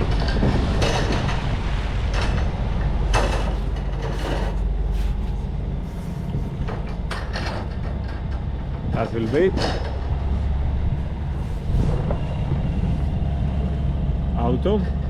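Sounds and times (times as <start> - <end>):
marine diesel engine running: 0.0 - 15.0
wind buffeting microphone: 0.0 - 15.0.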